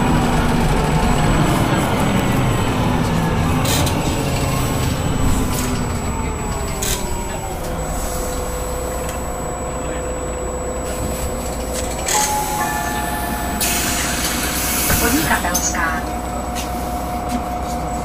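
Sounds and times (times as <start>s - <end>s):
steady whine: 0.0s - 16.4s
bus engine rumble: 0.0s - 18.0s.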